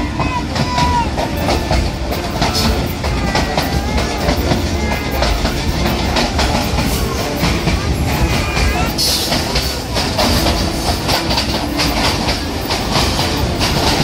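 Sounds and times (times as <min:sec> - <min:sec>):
train rumble: 0:00.0 - 0:14.0
wheels clicking over rail joints: 0:00.0 - 0:14.0.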